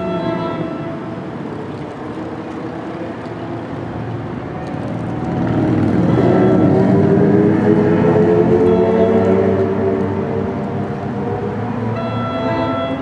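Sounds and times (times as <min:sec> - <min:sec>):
commuter train approaching: 0:00.0 - 0:13.0.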